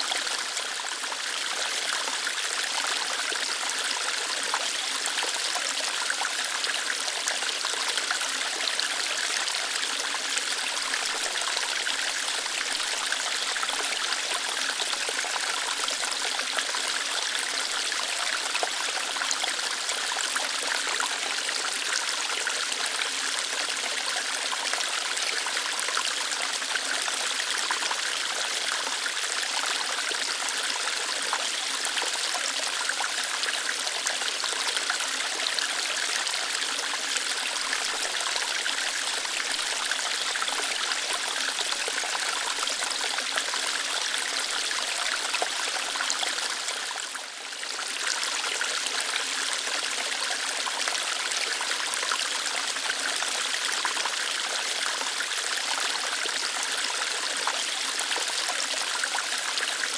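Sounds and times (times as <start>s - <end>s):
waterfall flowing over rocks: 0.0s - 59.9s.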